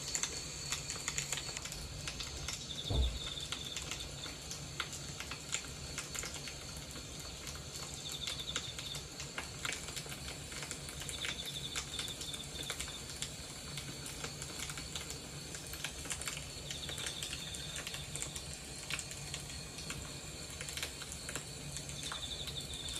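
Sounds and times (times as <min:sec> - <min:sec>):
fire crackling in a stove: 0:00.0 - 0:22.9.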